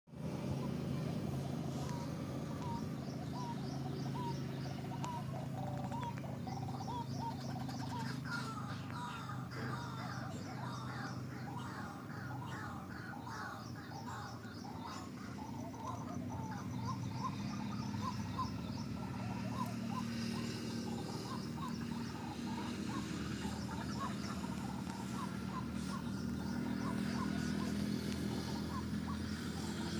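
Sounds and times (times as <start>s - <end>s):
birds chirping: 0.1s - 29.9s
low steady hum: 0.1s - 29.9s.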